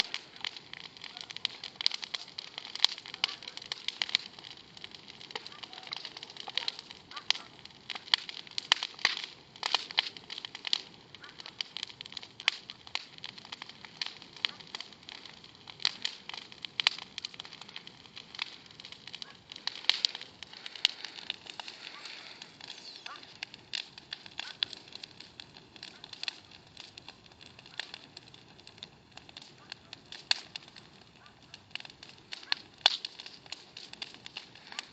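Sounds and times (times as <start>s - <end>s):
bonfire crackling and popping: 0.0s - 34.9s.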